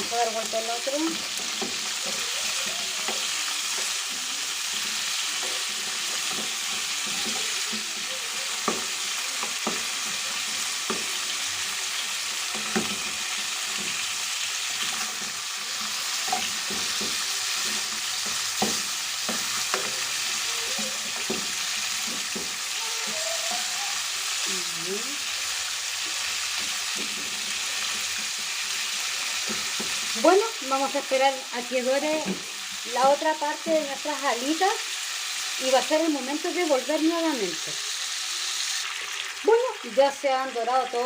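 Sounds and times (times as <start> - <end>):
chicken frying in oil: 0.0 - 41.0.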